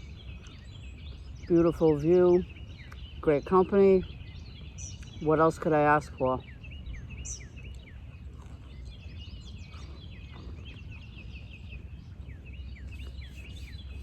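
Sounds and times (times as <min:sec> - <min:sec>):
low background rumble: 0:00.0 - 0:14.0
songbirds chirping and twittering: 0:00.0 - 0:14.0.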